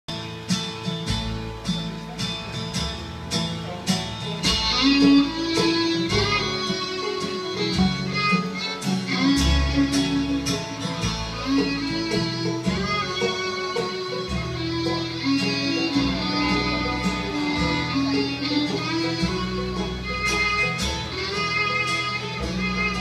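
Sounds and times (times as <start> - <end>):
acoustic guitar: 0.1 - 23.0
banjo: 0.1 - 23.0
fiddle melody: 0.1 - 23.0
upright bass: 0.1 - 23.0.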